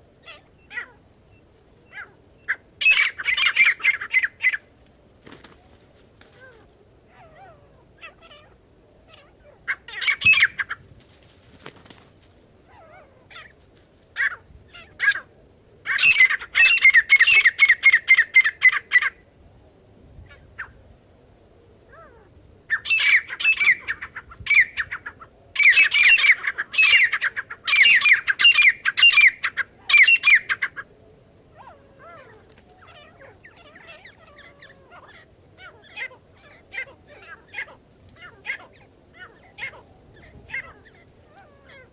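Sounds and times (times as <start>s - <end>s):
francolin calling: 0.0s - 4.7s, 5.3s - 10.8s, 12.6s - 13.6s, 14.2s - 19.3s, 21.8s - 41.9s.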